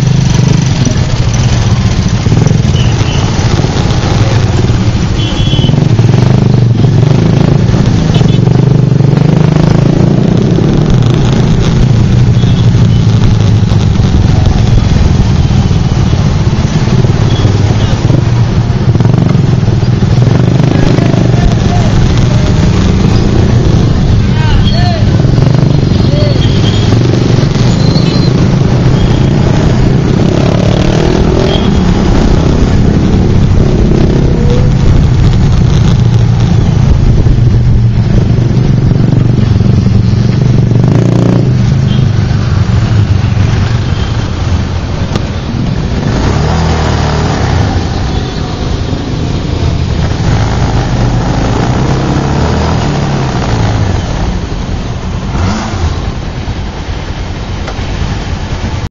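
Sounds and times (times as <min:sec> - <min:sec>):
motorcycle engine running: 0:00.0 - 0:54.9
road noise rushing: 0:00.0 - 0:58.9.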